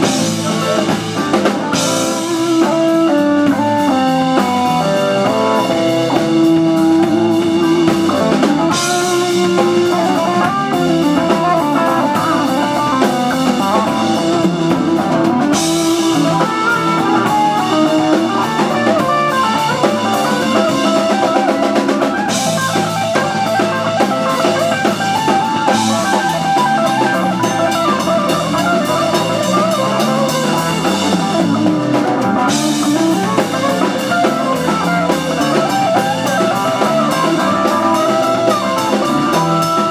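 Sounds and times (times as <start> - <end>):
drum kit with cymbal wash: 0.0 - 39.9
electric bass: 0.0 - 39.9
electric guitar lead: 0.0 - 39.9.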